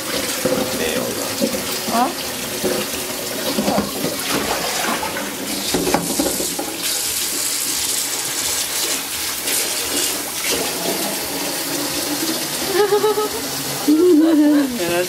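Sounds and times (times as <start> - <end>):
tap water splashing into metal sink: 0.0 - 12.6.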